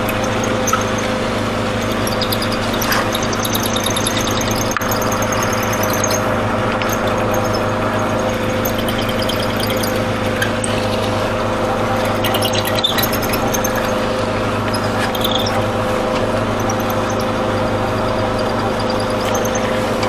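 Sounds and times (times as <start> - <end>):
mortise machine motor humming: 0.0 - 20.0.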